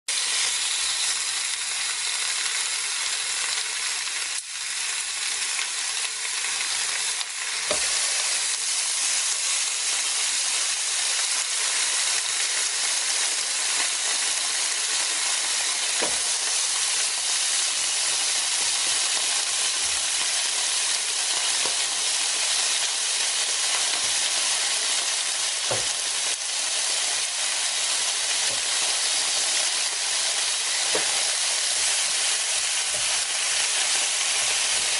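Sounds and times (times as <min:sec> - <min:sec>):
meat sizzling on grill: 0:00.1 - 0:34.9.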